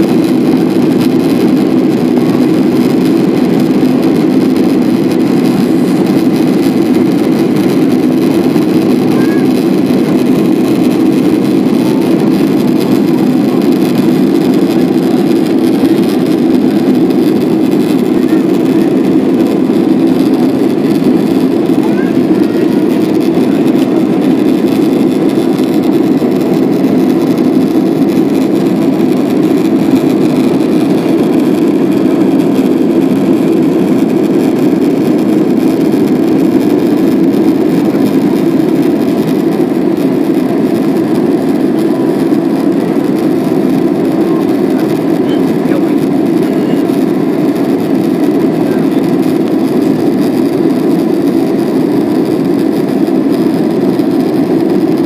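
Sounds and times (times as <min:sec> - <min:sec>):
jet cabin engine drone: 0:00.0 - 0:55.0.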